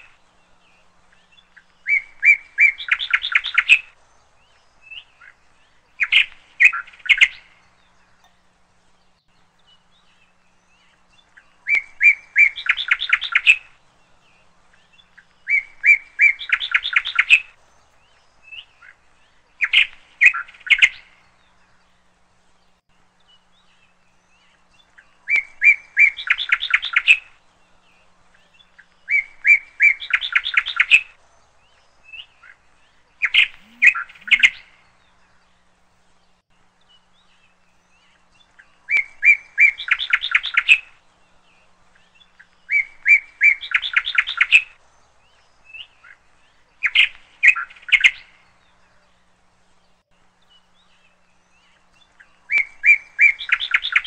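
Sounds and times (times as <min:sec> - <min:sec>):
songbird singing quick chirps: 0:00.0 - 0:54.0.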